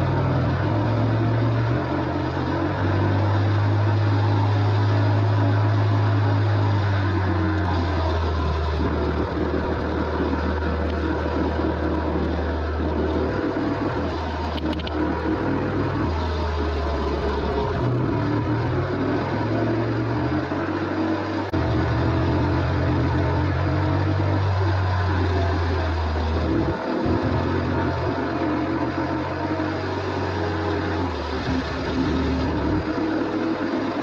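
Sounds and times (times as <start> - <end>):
motorcycle engine drone: 0.0 - 34.0
wind noise: 3.9 - 20.6, 21.5 - 34.0.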